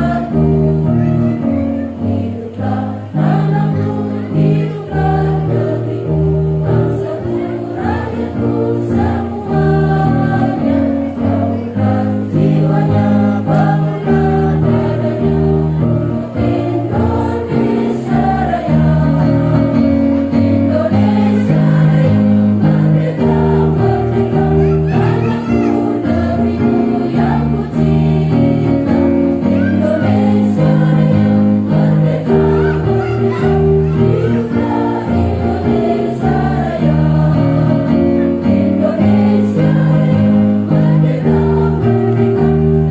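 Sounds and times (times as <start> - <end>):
choir singing an anthem: 0.0 - 42.9
instrumental accompaniment: 0.0 - 42.9.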